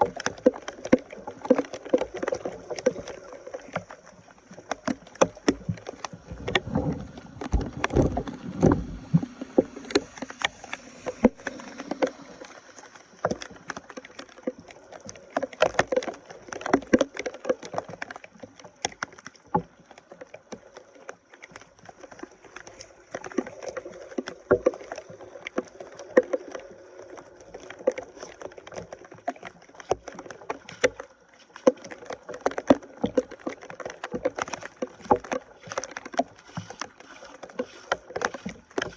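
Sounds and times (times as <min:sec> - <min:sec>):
water splashing and sloshing: 0:00.0 - 0:38.9.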